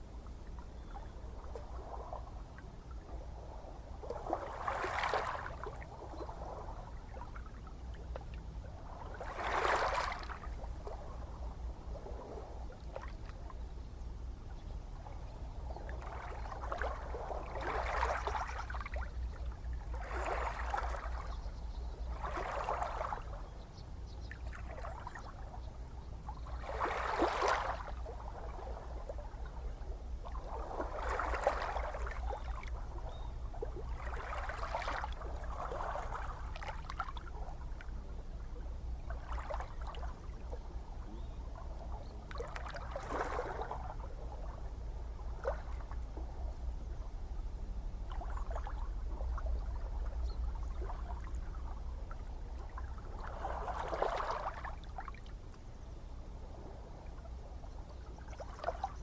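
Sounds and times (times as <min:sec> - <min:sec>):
waves lapping and splashing: 0:00.0 - 0:13.6, 0:14.9 - 0:23.5, 0:24.2 - 0:25.7, 0:26.3 - 0:59.0
low rumble of surf: 0:00.0 - 0:59.0.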